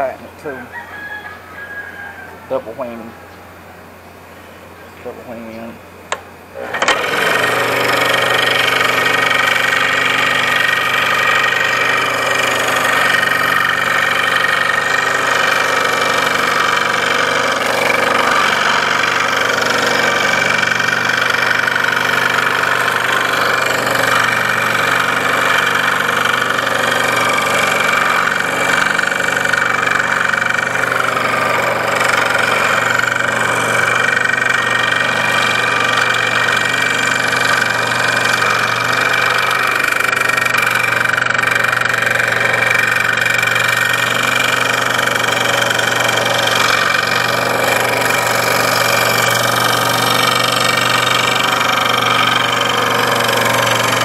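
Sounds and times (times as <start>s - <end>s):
scroll saw cutting wood: 5.0s - 54.0s.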